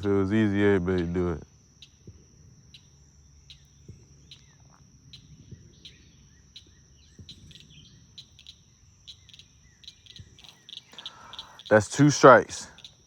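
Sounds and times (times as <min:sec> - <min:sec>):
faint bird calls: 0:00.0 - 0:13.0
insects buzzing: 0:00.0 - 0:13.0.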